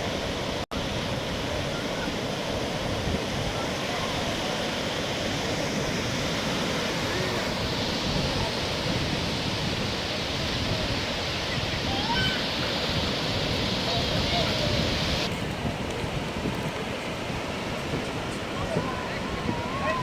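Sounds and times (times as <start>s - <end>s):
surf washing on a beach: 0.0s - 20.0s
faint distant voices: 3.1s - 20.0s.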